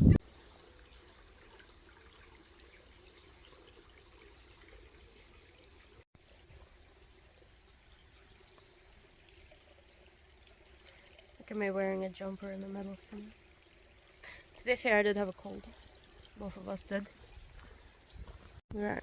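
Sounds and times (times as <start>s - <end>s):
faint trickle of water: 0.2s - 19.0s.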